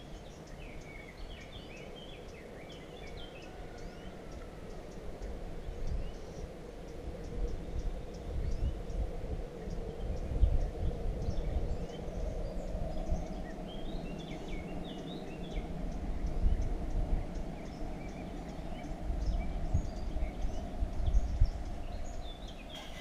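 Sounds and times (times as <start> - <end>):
birds chirping: 0.0 - 23.0
wind rumble on microphone: 0.0 - 23.0.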